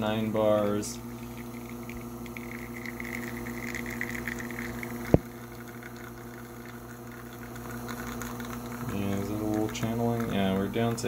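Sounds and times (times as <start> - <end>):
espresso machine pump: 0.0 - 11.0.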